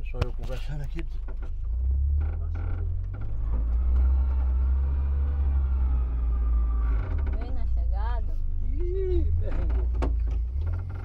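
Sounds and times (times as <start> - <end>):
van engine rumbling on dirt track: 0.0 - 11.0.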